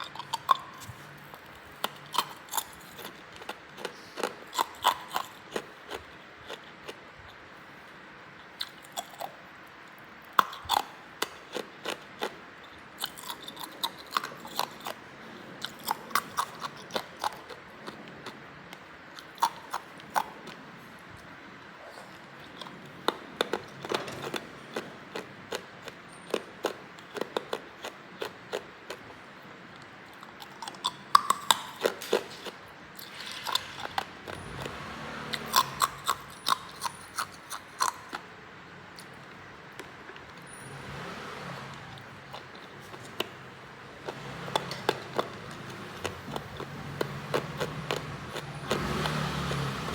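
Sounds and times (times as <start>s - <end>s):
person chewing ice: 0.0s - 21.3s, 21.9s - 40.4s, 41.8s - 49.9s.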